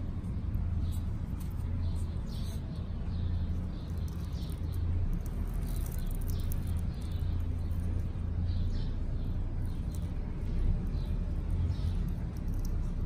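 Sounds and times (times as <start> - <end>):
faint bird chirps: 0.0 - 13.0
steady low hum: 0.0 - 13.0
tortoise biting leaves: 0.0 - 13.0.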